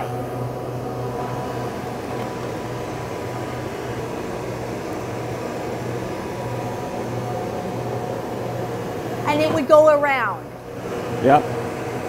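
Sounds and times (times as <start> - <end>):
flight simulator mechanical hum: 0.0 - 12.0.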